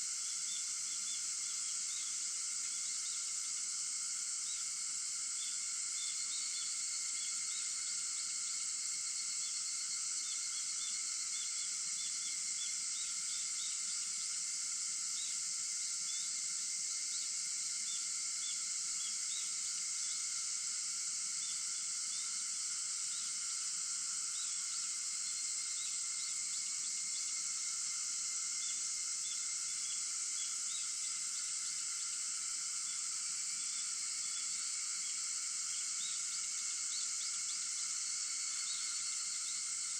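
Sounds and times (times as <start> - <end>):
cicadas and insects buzzing: 0.0 - 39.9.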